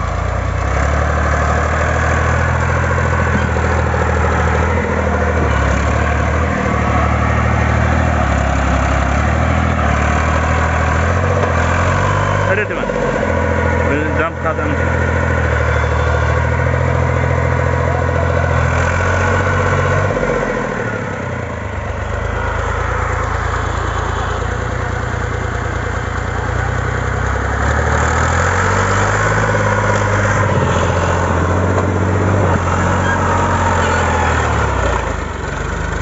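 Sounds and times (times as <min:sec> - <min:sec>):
tractor diesel engine running hard: 0:00.0 - 0:36.0.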